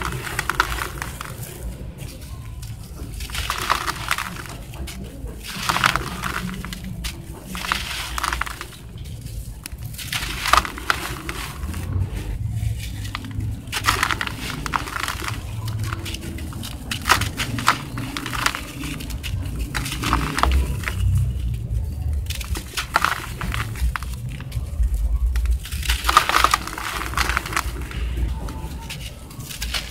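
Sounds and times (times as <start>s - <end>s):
gritty crunching of sand balls: 0.0s - 29.9s.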